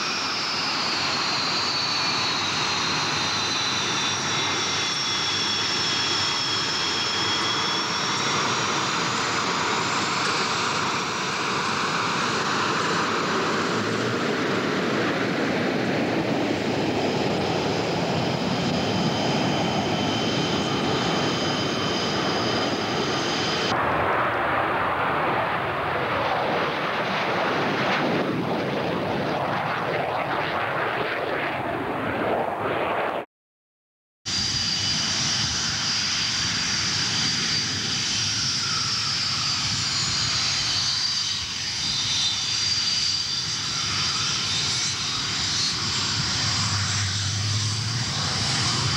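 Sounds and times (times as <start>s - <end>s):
jet engines roaring: 0.0s - 33.2s, 34.3s - 48.9s
high jet whine: 0.0s - 33.3s, 34.3s - 48.9s.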